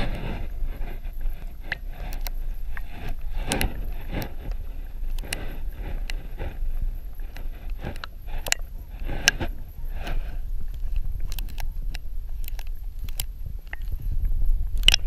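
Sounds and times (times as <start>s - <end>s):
muffled water sloshing: 0.0s - 15.0s
steady low rumble: 0.0s - 15.0s.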